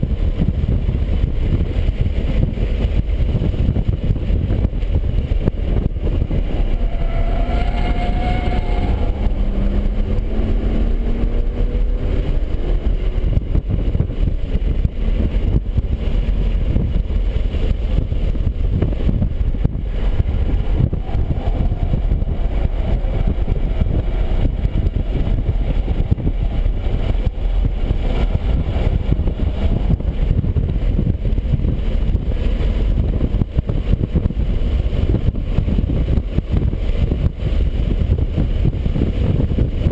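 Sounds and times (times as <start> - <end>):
car engine running hard: 0.0 - 39.9
road noise: 0.0 - 39.9
wind noise: 0.0 - 39.9.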